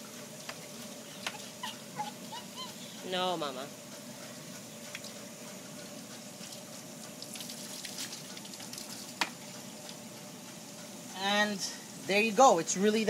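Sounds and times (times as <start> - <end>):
garden hose water hiss: 0.0 - 13.0.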